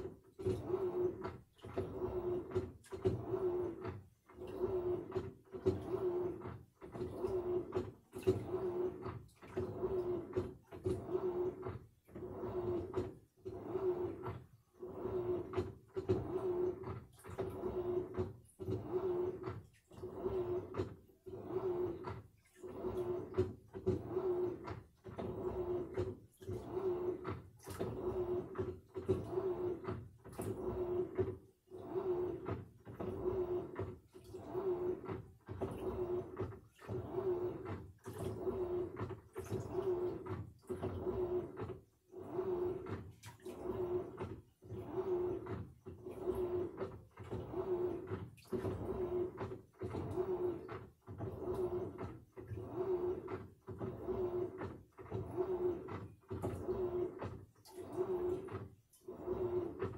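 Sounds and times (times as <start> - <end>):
washing machine motor hum: 0.0 - 59.9
water sloshing in drum: 0.0 - 59.9.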